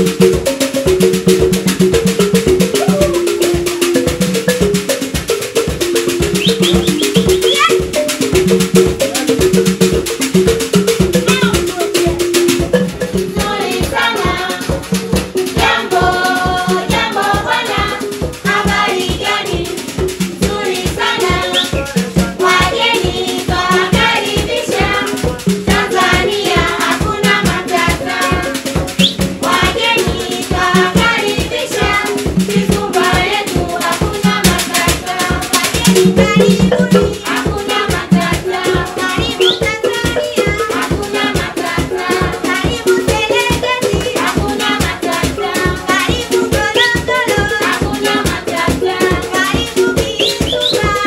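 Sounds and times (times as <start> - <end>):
group singing: 0.0 - 5.2, 5.8 - 51.0
hand drums drumming: 0.0 - 51.0.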